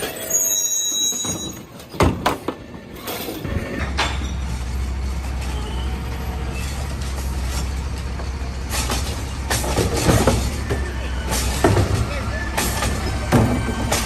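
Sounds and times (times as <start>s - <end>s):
garbage truck engine droning: 0.0s - 14.0s.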